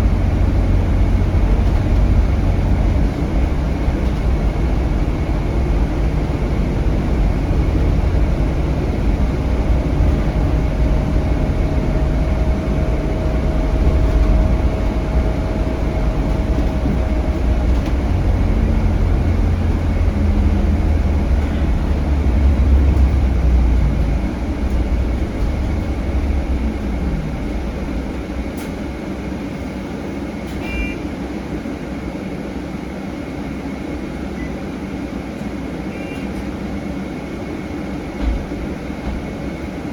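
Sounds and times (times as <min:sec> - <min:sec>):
bus engine rumble: 0:00.0 - 0:39.9.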